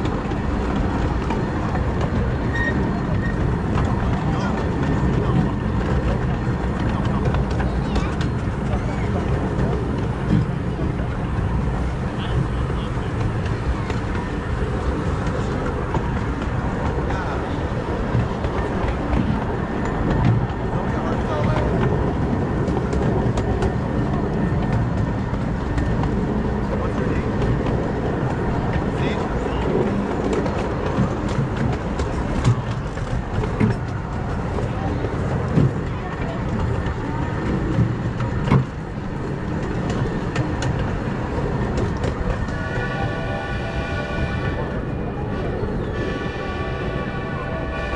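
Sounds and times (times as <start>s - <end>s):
miniature steam train rumbling: 0.0s - 47.9s
wheels clicking on rails: 0.0s - 47.9s.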